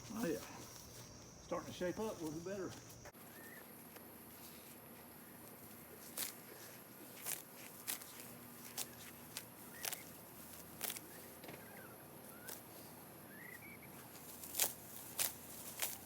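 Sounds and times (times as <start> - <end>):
dry grass rustling and snapping: 0.0 - 16.0.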